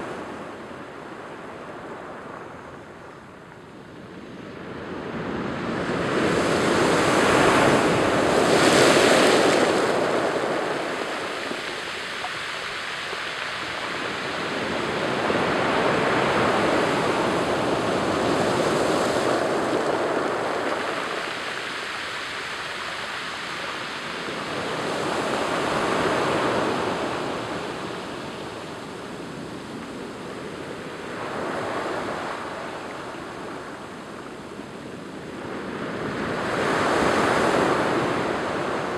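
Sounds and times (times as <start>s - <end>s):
waves washing over rocks: 6.1s - 38.9s.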